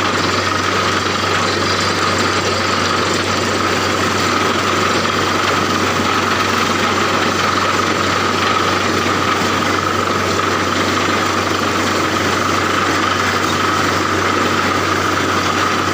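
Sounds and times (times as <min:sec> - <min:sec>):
engine running with high whine: 0:00.0 - 0:15.9.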